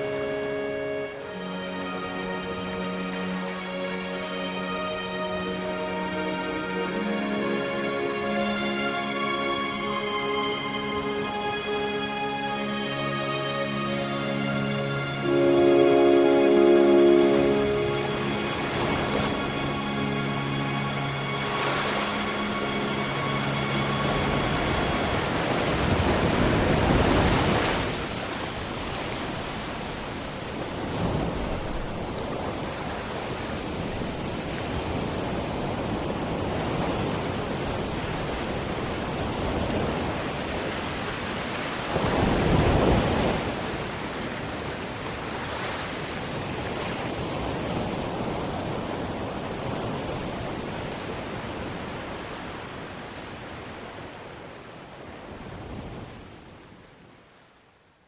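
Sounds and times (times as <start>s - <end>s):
sea waves washing: 0.0s - 56.5s.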